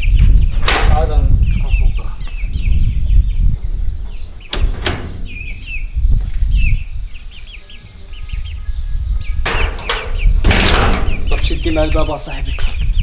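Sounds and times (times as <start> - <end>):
chicks peeping: 0.0 - 10.4, 11.0 - 13.0.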